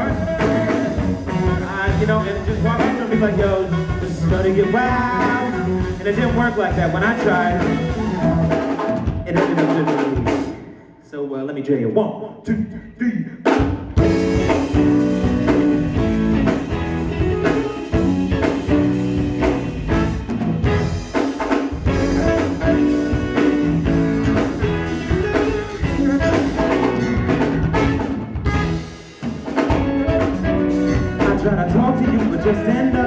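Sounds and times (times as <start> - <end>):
live band playing instrumental: 0.0 - 10.6, 13.5 - 33.0.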